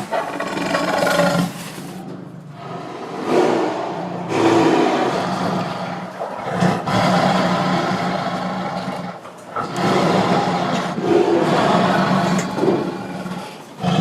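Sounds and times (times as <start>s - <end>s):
tiger roaring and growling: 0.0s - 14.0s.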